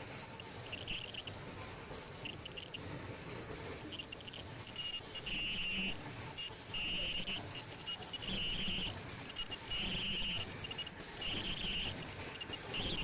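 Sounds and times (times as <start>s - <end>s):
light mechanical clatter: 0.0s - 13.0s.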